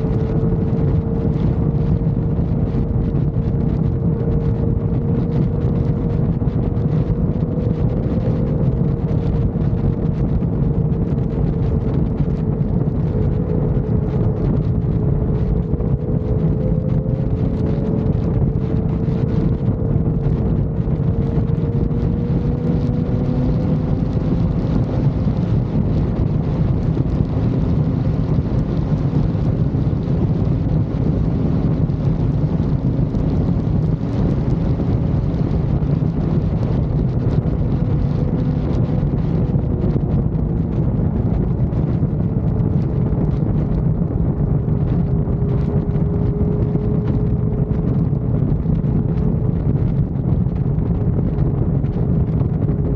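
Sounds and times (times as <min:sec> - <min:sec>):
motorcycle engine drone: 0:00.0 - 0:52.9
wind rush on microphone: 0:00.0 - 0:52.9.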